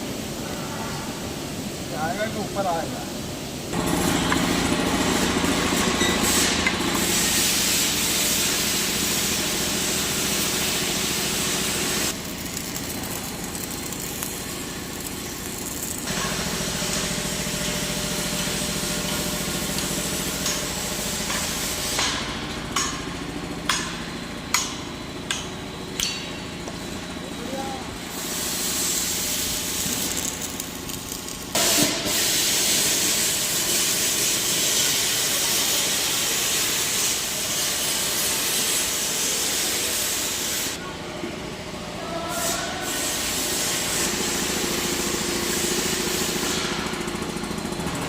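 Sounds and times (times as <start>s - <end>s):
machine electrical hum: 0.0s - 48.0s
plasma torch hissing: 0.1s - 22.4s, 27.4s - 40.8s, 42.0s - 46.9s.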